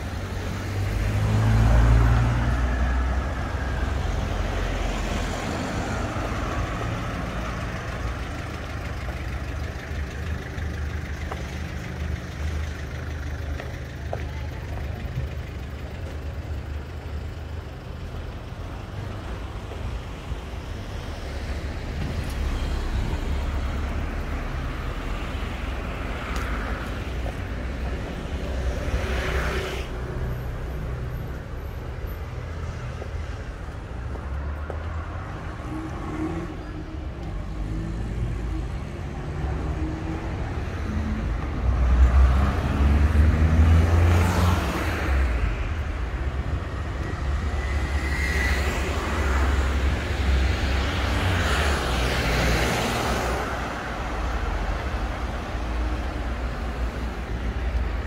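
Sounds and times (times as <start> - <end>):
cars passing: 0.0 - 58.0
traffic rumble: 0.0 - 58.0.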